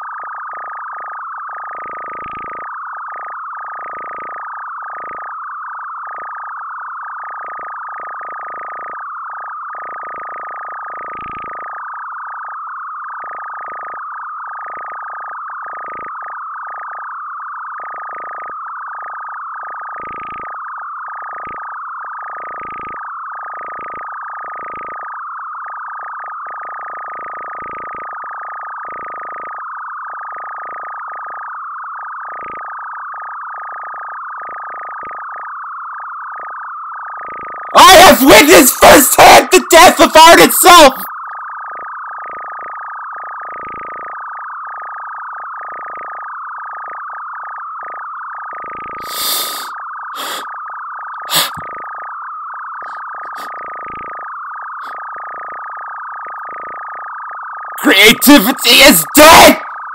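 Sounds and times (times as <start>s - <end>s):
high sine-like tone: 0.0s - 38.1s, 41.1s - 57.8s.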